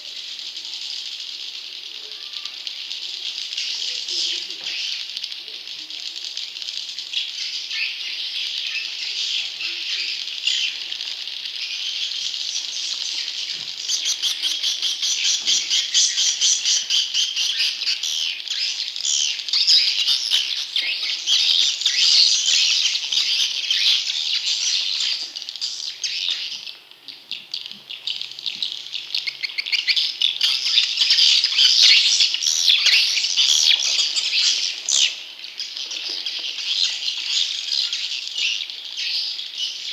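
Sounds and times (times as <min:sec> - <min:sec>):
swiftlet chicks chirping: 0:00.2 - 0:39.9.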